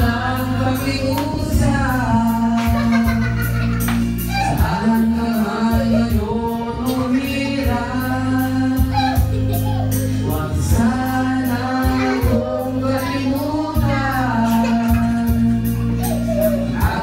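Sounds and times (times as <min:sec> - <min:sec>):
karaoke backing track: 0:00.0 - 0:17.0
man singing into microphone: 0:00.0 - 0:17.0.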